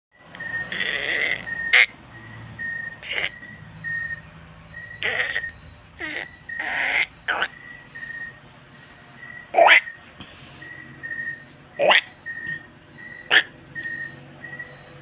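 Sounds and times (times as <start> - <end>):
high-pitched whines and chirps: 0.3 - 15.0.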